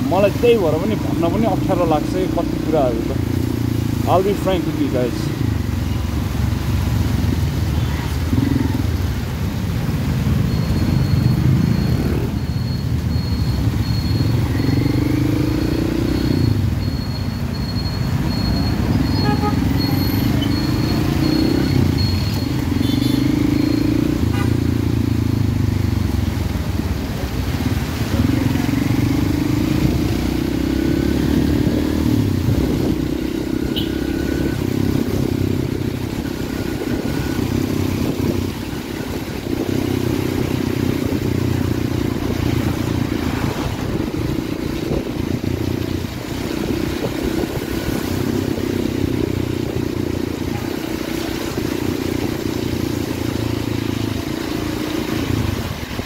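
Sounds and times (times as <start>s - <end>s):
motorcycle engine revving: 0.0s - 9.2s, 10.1s - 12.5s, 13.3s - 56.0s
road noise: 0.0s - 56.0s.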